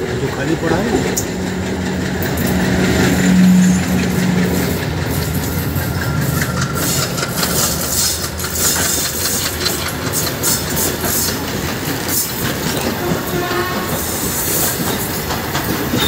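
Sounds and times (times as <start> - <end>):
train wheels rumbling on rails: 0.0 - 16.0
wheels clacking over rail joints: 0.0 - 16.0.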